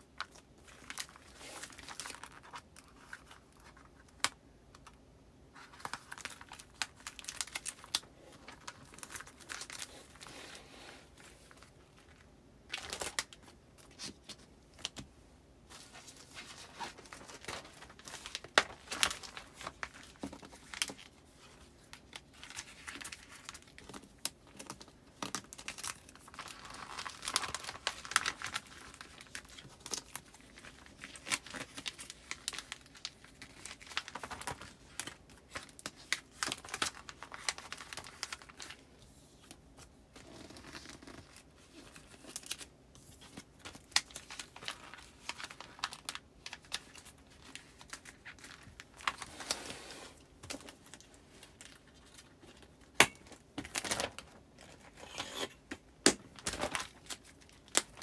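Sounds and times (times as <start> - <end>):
plastic sleeves crinkling and rustling: 0.0 - 58.0.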